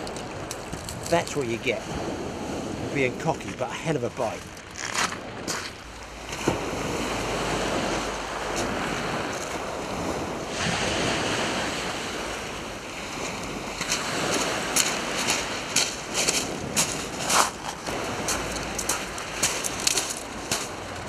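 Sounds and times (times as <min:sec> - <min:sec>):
waves washing on shingle: 0:00.0 - 0:21.0
wind on microphone: 0:00.0 - 0:21.0.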